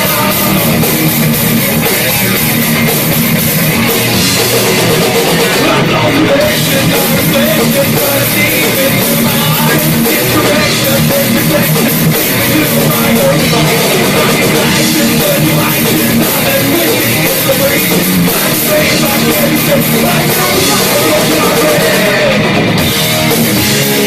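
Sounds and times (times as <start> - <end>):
heavy metal band playing: 0.0 - 24.0.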